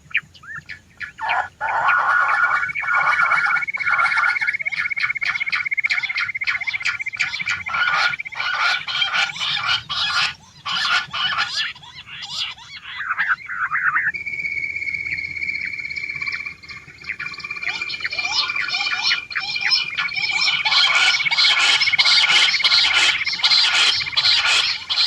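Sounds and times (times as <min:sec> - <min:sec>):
quail high trilling call: 0:00.0 - 0:25.0
quail rapid sharp calls: 0:00.0 - 0:25.0.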